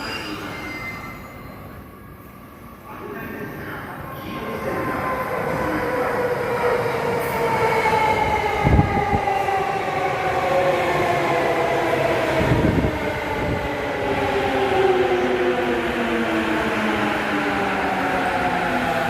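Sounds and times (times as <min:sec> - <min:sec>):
rolling rumble of train: 0:00.0 - 0:19.0.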